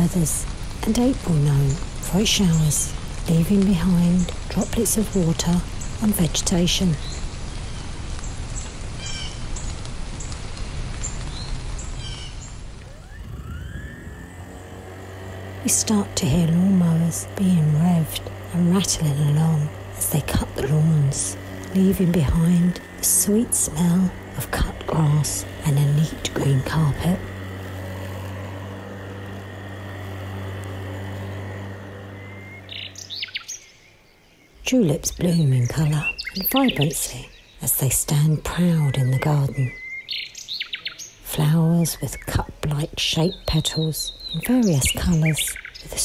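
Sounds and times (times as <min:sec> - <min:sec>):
birds chirping: 0:00.0 - 0:10.4, 0:11.0 - 0:46.0
lawnmower motor whine: 0:00.0 - 0:40.2
light rain: 0:00.0 - 0:46.0.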